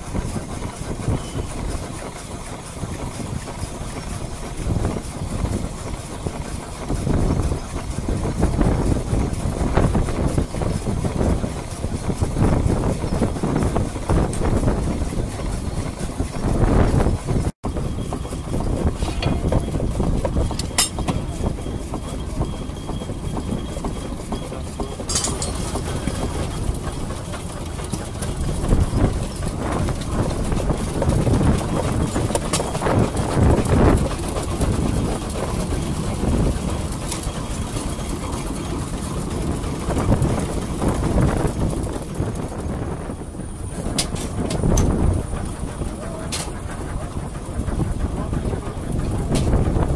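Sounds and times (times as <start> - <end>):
steam engines running: 0.0 - 49.9.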